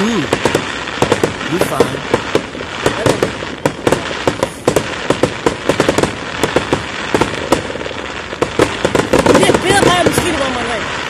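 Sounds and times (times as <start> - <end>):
fireworks popping and cracking: 0.0 - 11.0.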